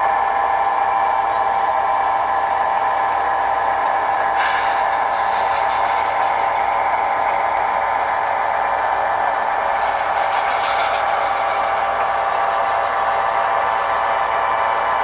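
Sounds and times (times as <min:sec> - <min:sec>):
diesel engine sound from small speaker: 0:00.0 - 0:15.0.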